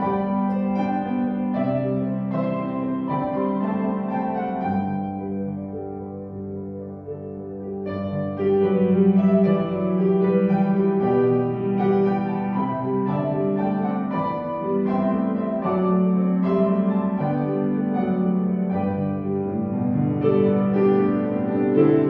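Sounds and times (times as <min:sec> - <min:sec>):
slow keyboard chords: 0:00.0 - 0:22.0.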